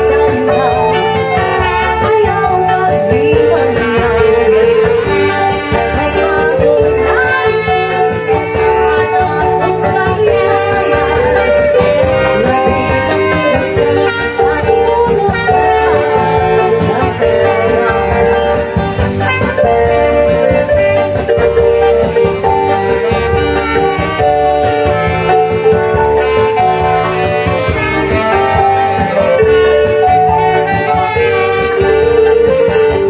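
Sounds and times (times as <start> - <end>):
dance band playing cha-cha: 0.0 - 33.0
saxophone melody: 0.0 - 33.0
trumpet melody: 0.0 - 33.0.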